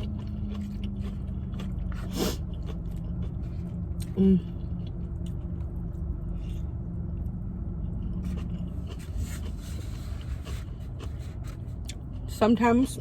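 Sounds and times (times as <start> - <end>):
eating clicks and scrapes: 0.0 - 6.6, 8.0 - 13.0
low hum inside car: 0.0 - 13.0.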